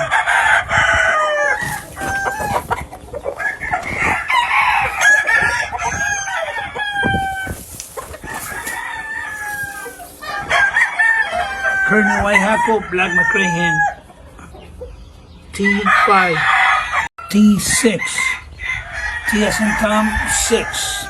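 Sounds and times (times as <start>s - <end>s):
roosters crowing: 0.0s - 14.8s, 15.6s - 21.0s
chickens clucking: 0.0s - 17.1s.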